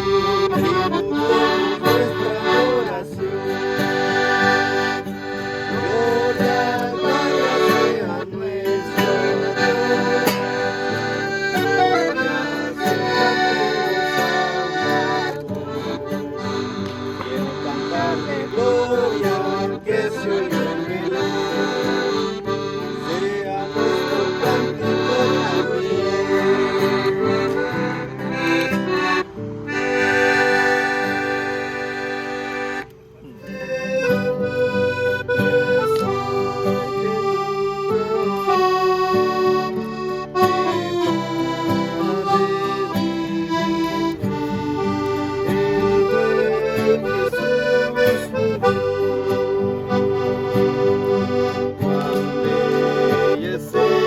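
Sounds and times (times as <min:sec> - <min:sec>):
accordion melody over chords: 0:00.0 - 0:54.0.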